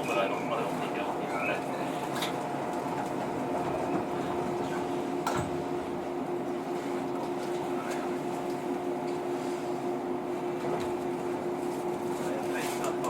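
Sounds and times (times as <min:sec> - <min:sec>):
train electrical hum: 0:00.0 - 0:13.0.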